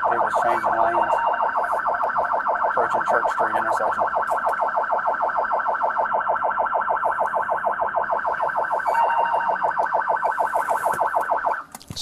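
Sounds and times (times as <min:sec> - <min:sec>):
police siren warbling: 0:00.0 - 0:11.7.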